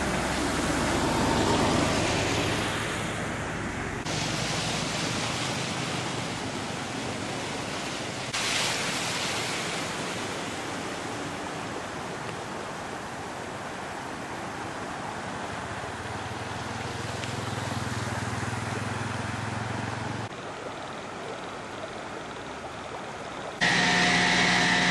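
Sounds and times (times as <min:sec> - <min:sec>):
floodwater rushing: 0:00.0 - 0:24.9
vehicle driving through water: 0:00.0 - 0:24.9.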